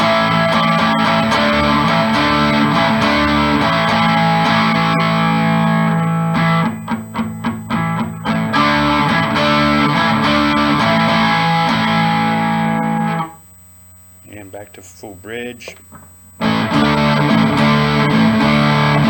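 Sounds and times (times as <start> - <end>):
choppy guitar strums: 0.0 - 13.4, 15.6 - 19.0
electric guitar chords: 0.0 - 13.5, 15.2 - 19.0.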